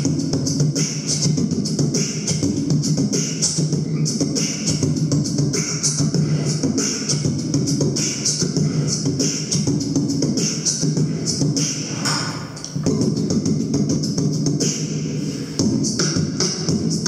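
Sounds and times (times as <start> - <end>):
person beatboxing: 0.0 - 17.0.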